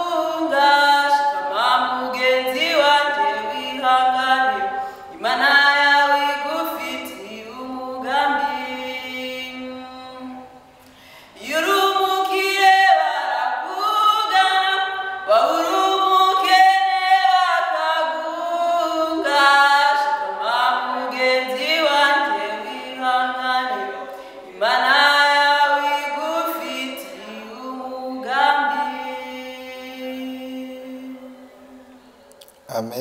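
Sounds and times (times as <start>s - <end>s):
a cappella group singing: 0.0s - 10.7s, 11.3s - 32.0s.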